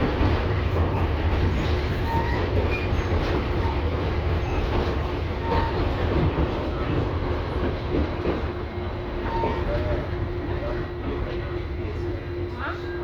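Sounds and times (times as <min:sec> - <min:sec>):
tram wheels rumbling: 0:00.0 - 0:13.0.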